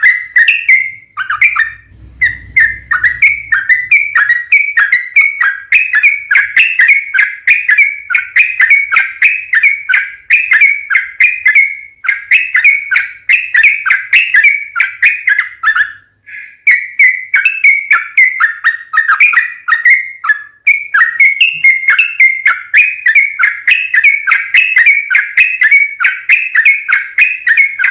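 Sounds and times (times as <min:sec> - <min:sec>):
bird chattering song: 0:00.0 - 0:27.9.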